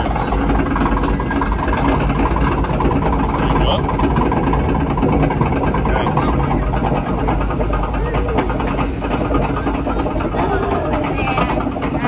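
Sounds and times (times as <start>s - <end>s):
fine rattle: 0.0s - 12.0s
low mechanical rumble of ride boat: 0.0s - 12.0s.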